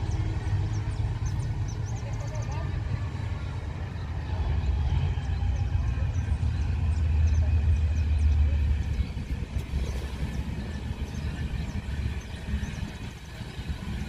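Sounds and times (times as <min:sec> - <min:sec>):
heavy engine rumbling: 0:00.0 - 0:14.0.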